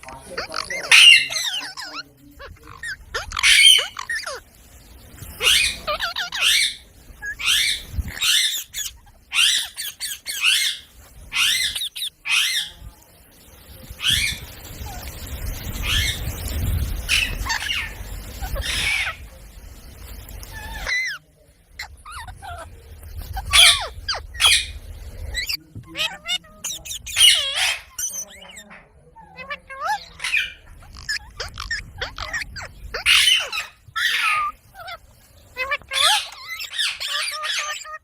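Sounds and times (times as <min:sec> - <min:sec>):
parrot squawking: 0:00.0 - 0:04.5, 0:05.4 - 0:12.8, 0:14.0 - 0:19.3, 0:20.4 - 0:21.2, 0:21.8 - 0:38.0.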